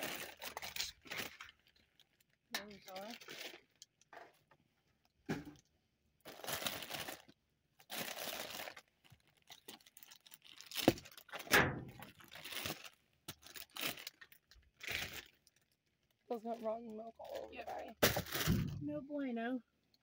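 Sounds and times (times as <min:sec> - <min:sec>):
plastic bags crinkling: 0:00.0 - 0:04.6, 0:06.2 - 0:18.9.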